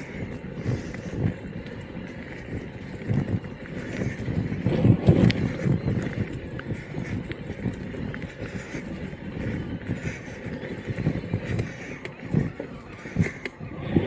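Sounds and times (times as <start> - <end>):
bike rumbling over rough ground: 0.0 - 14.0.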